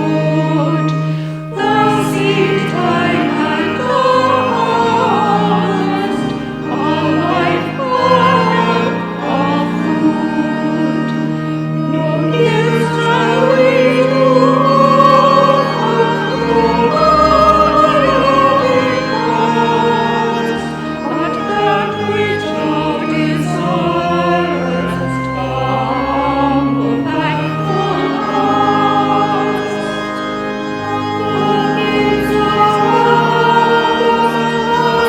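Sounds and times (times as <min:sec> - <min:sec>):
choir singing: 0:00.0 - 0:35.0
organ notes: 0:00.0 - 0:35.0.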